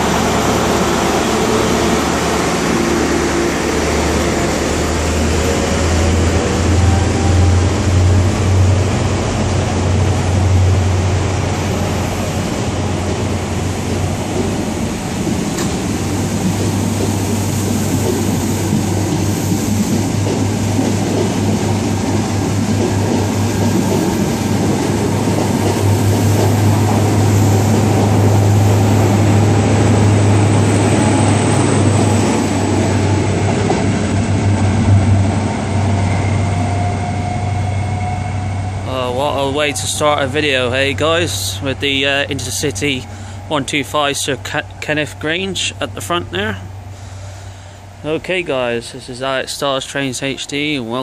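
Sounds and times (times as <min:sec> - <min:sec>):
pulsing low diesel drone: 0:00.0 - 0:48.4
train wheels rumbling on rails: 0:00.0 - 0:51.0.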